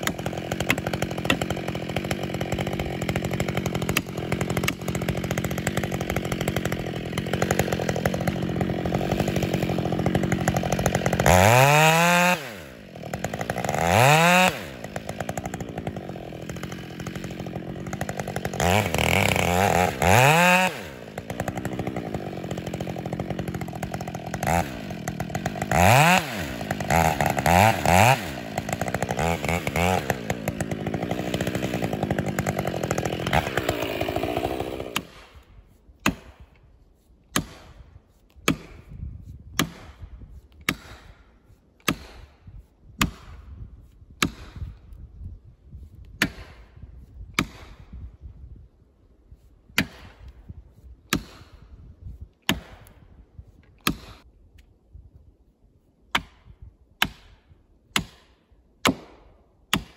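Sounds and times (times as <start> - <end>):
chainsaw cutting tree: 0.0 - 36.7, 37.3 - 45.3, 46.0 - 48.3, 52.4 - 53.0, 53.8 - 54.3, 57.0 - 59.9.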